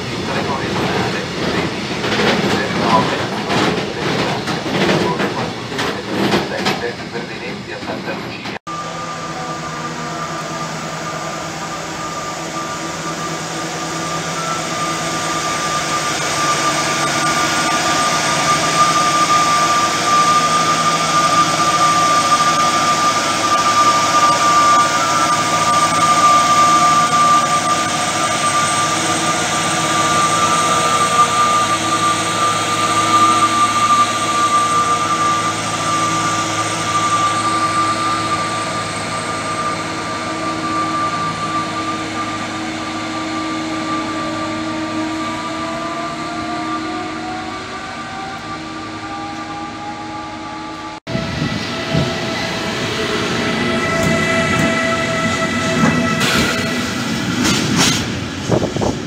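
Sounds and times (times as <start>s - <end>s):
track machine engine with whine: 0.0s - 59.0s.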